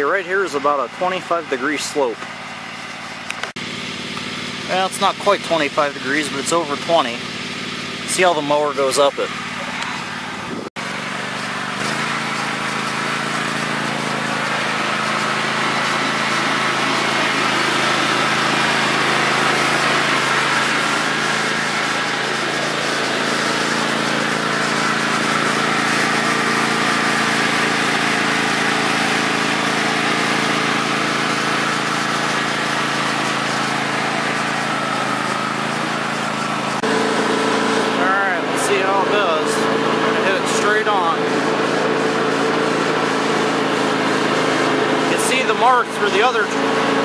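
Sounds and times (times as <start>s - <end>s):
lawn tractor engine under load: 0.0s - 47.0s.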